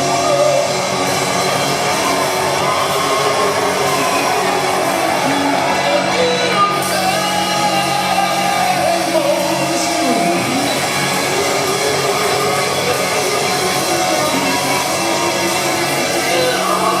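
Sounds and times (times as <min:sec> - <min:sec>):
hard rock band playing: 0:00.0 - 0:17.0
person singing and shouting: 0:01.8 - 0:17.0.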